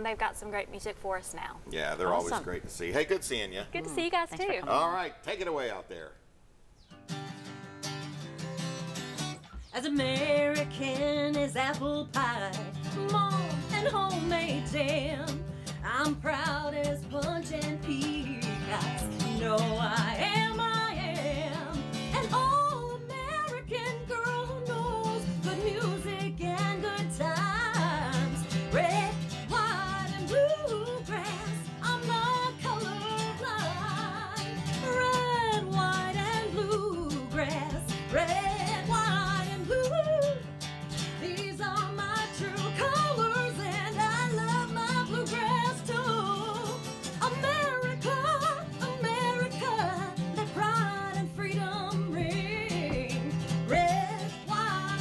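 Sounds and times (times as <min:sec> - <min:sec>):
strummed acoustic guitar: 0:06.9 - 0:55.0
woman singing country song: 0:09.5 - 0:55.0.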